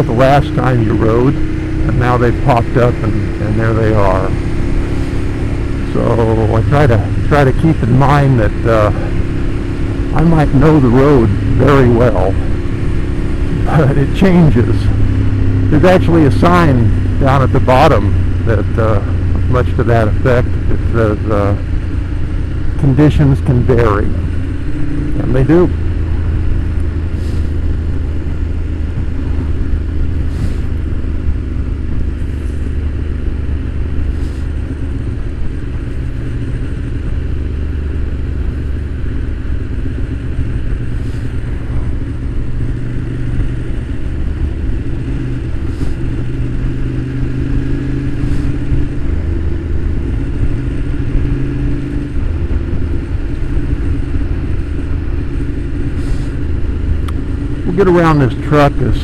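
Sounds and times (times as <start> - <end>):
motorcycle engine cruising: 0.0 - 59.0
road and wind noise: 0.0 - 59.0.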